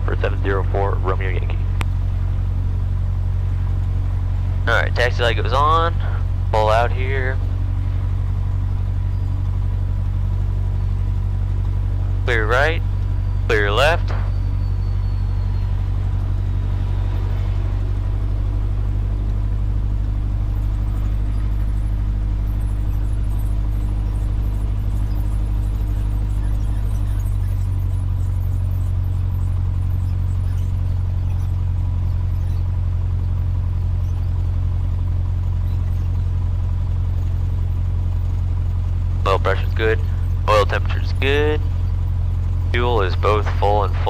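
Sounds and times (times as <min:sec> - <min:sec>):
propeller plane engine running: 0:00.0 - 0:44.0.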